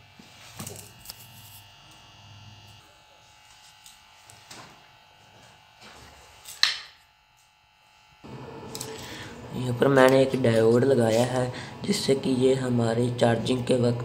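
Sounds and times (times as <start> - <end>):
faint electrical buzz: 0.0 - 14.0.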